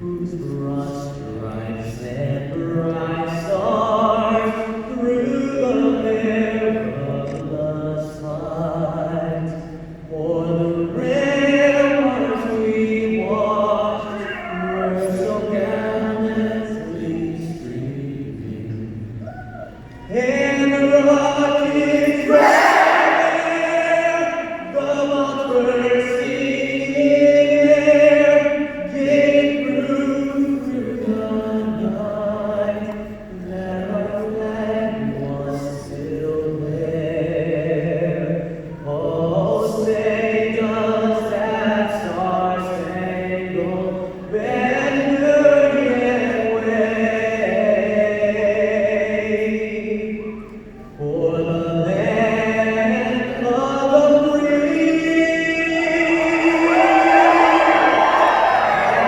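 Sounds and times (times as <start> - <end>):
man singing an anthem: 0.0 - 19.0, 20.0 - 59.0.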